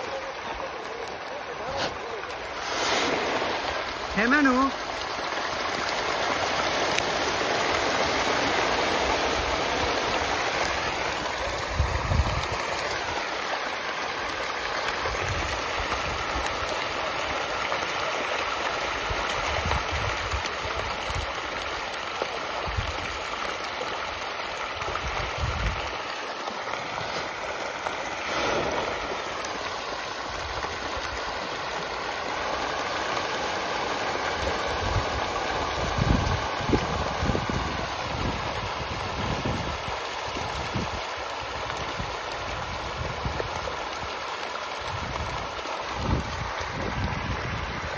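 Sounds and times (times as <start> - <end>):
fish splashing at water surface: 0.0 - 39.0.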